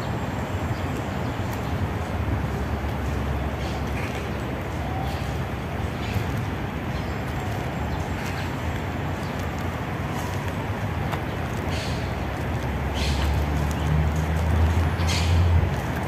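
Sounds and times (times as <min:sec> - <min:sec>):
faint footsteps: 0:00.0 - 0:16.0.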